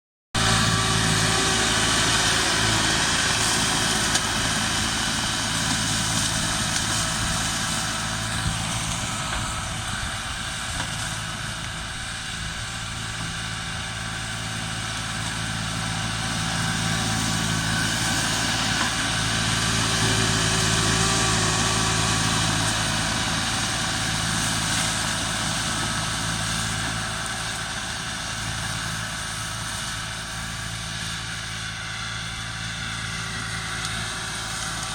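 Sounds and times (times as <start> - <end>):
machine engine running: 0.4 - 34.9.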